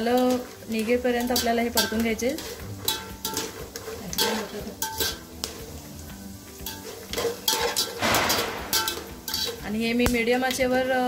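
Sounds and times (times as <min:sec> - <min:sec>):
metal spatula scraping pot: 0:00.0 - 0:09.8.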